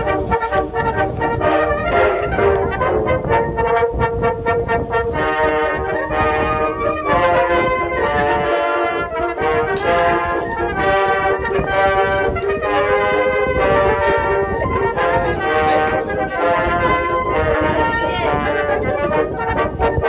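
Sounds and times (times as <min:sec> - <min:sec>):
background music melody: 0:00.0 - 0:20.0.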